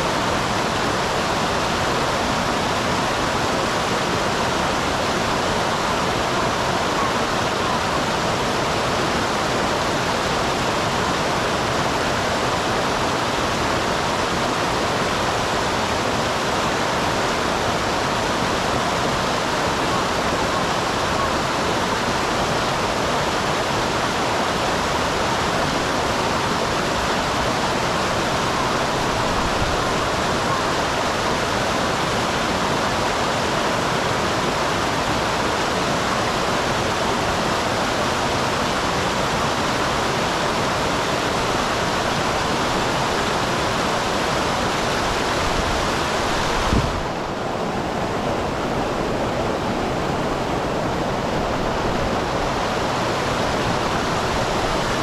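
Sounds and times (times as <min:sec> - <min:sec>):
water rushing over waterfall: 0:00.0 - 0:55.0.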